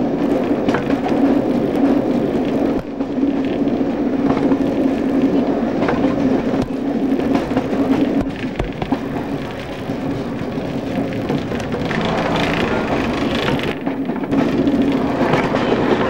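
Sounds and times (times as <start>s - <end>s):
diesel train engine drone: 0.0s - 16.0s
rail noise: 0.0s - 16.0s.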